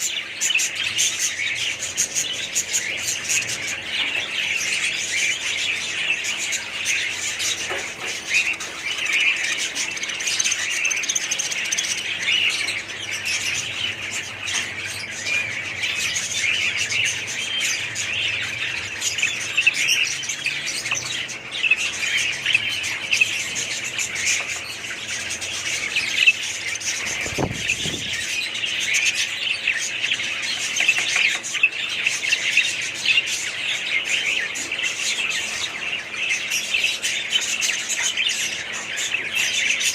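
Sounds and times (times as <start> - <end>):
parrots chattering and chirping: 0.0 - 39.9.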